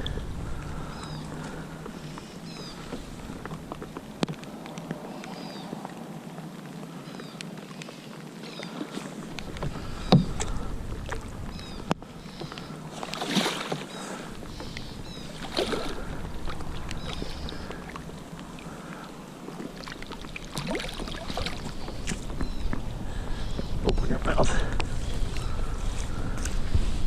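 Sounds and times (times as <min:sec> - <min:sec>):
wind rumble on microphone: 0:00.0 - 0:07.7, 0:08.6 - 0:27.0
water splashes: 0:00.0 - 0:27.0.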